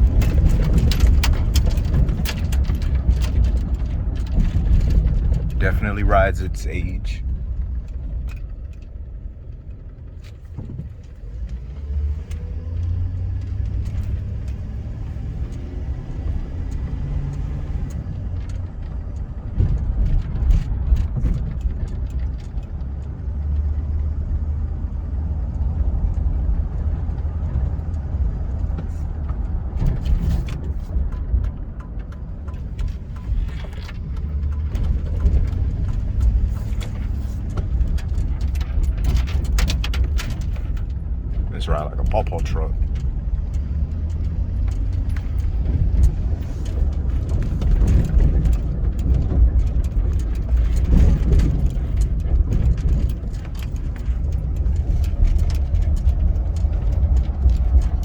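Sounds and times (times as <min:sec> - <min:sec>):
engine and road rumble: 0:00.0 - 0:58.0
knocks and rattles over bumps: 0:00.0 - 0:58.0.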